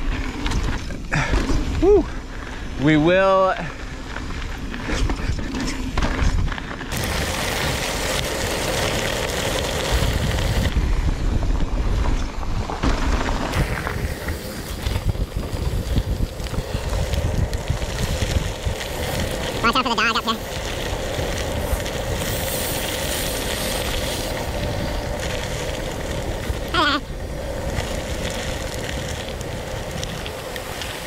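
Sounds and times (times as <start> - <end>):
low rumble of travel: 0.0 - 2.9, 3.7 - 31.0
wind rushing over microphone: 0.0 - 31.0.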